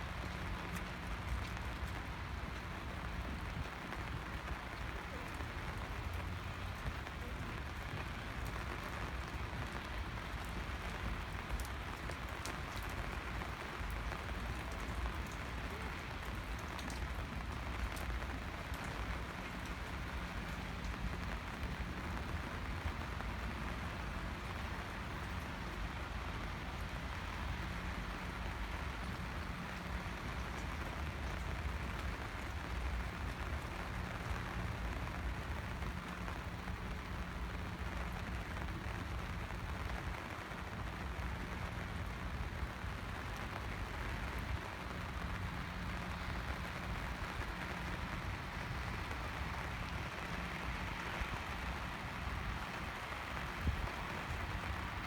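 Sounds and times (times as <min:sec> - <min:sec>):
raindrops ticking: 0:00.0 - 0:55.0
steady rain falling: 0:00.0 - 0:55.0.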